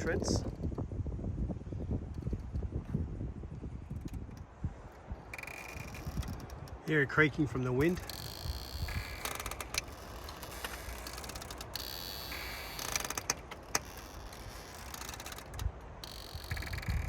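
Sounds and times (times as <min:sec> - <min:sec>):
low rumble of wind: 0:00.0 - 0:17.0
logs creaking and groaning: 0:02.0 - 0:17.0.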